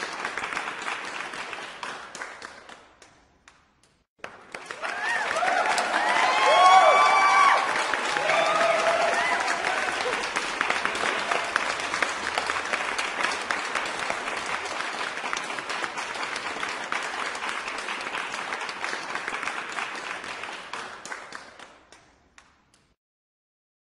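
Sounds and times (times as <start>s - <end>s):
crowd applauding: 0.0s - 2.8s, 4.2s - 22.0s.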